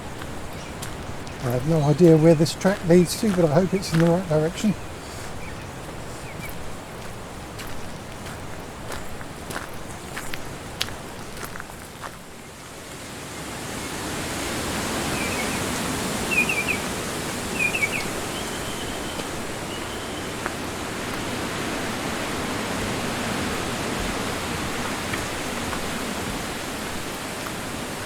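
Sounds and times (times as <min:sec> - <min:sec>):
strong wind through trees: 0:00.0 - 0:28.0.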